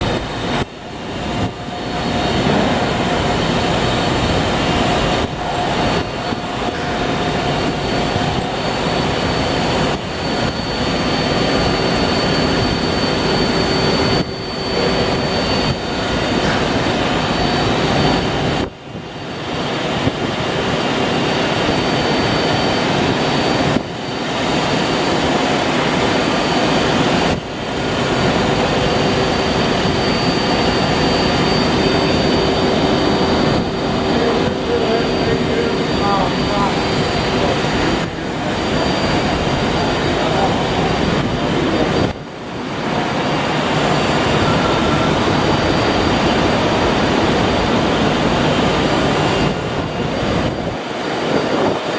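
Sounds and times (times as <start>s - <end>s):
machine whirring with whines: 0.0s - 51.9s.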